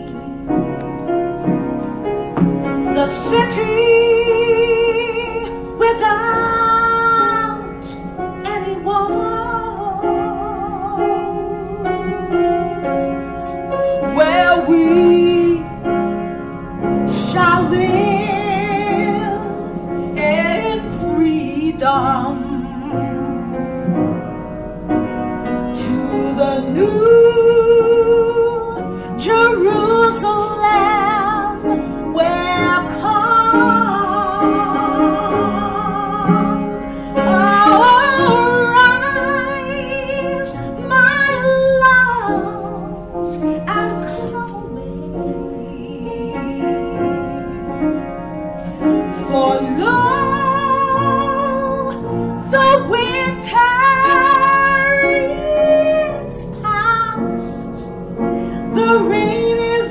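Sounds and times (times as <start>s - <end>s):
piano accompaniment: 0.0s - 59.9s
woman singing with vibrato: 2.8s - 12.6s, 13.4s - 15.9s, 17.0s - 23.6s, 25.7s - 59.9s.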